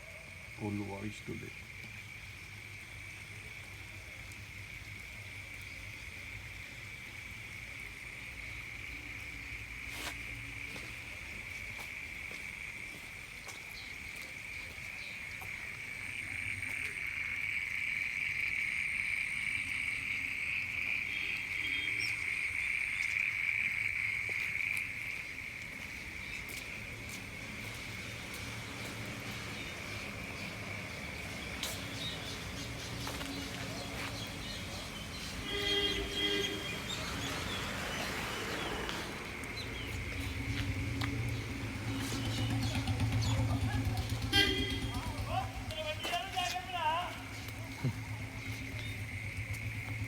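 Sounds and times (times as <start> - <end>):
insect chorus trilling: 0.0 - 50.0.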